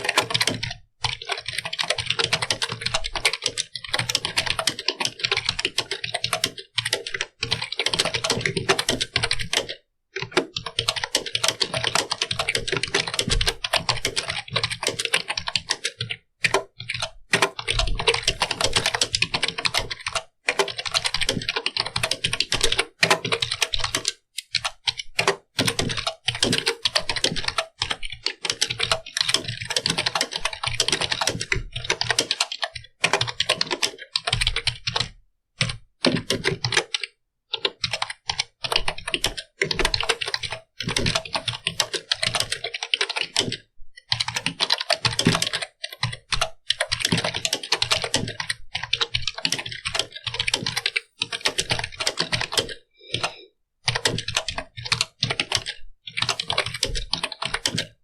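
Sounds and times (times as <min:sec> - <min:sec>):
fast typing on computer keyboard: 0:00.0 - 0:58.0.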